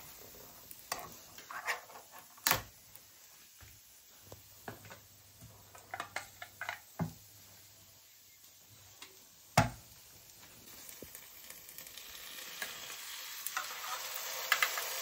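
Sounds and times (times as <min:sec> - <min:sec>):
chicken frying in a pan: 0:00.0 - 0:15.0.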